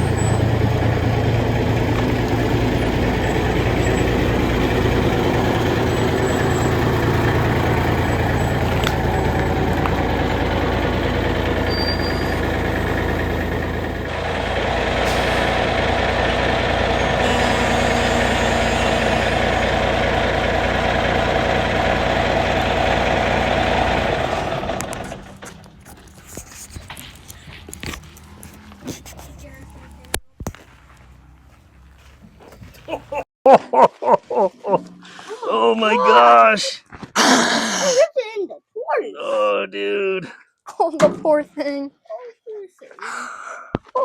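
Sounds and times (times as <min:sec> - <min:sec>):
truck diesel engine running: 0:00.0 - 0:33.2, 0:34.4 - 0:36.5.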